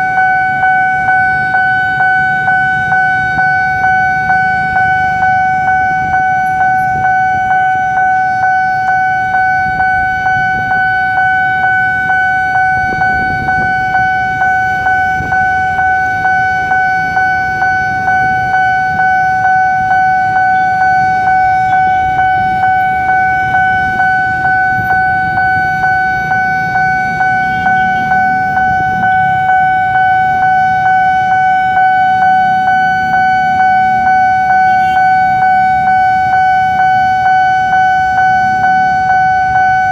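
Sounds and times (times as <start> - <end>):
engines idling: 0.0 - 39.9
level crossing warning bell: 0.0 - 39.9.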